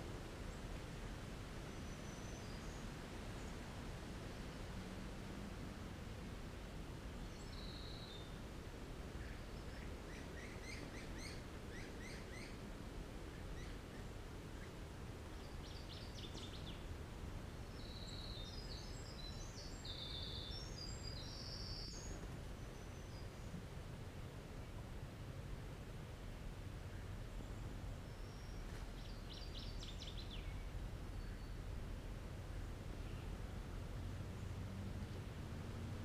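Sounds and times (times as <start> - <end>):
low background rumble: 0.0 - 36.0
songbirds singing: 0.3 - 5.5, 6.2 - 23.8, 26.8 - 36.0.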